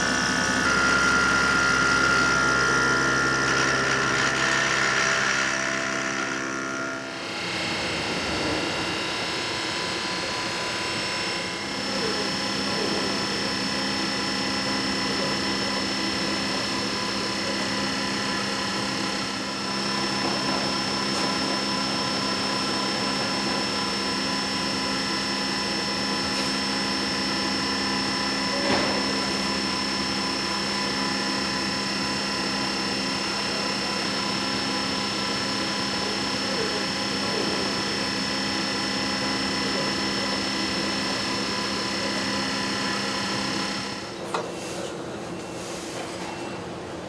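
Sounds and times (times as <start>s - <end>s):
lathe machine hum: 0.0s - 47.0s.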